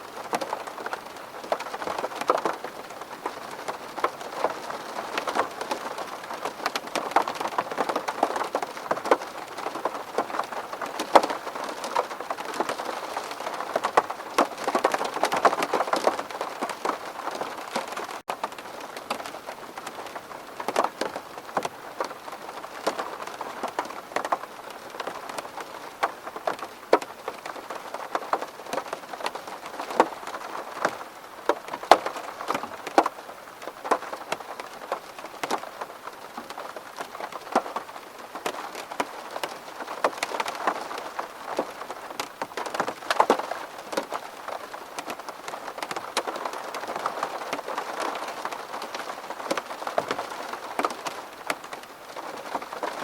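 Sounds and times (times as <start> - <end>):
rain pattering on window glass: 0.0 - 53.0.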